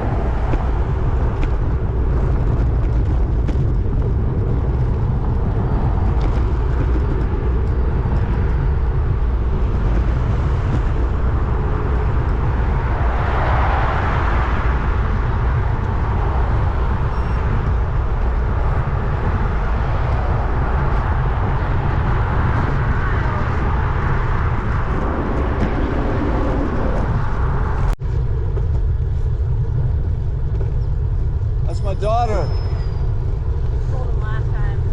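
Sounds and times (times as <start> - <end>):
vehicle passing: 0.0 - 28.4
road noise: 0.0 - 34.9
wind buffeting microphone: 0.0 - 34.9.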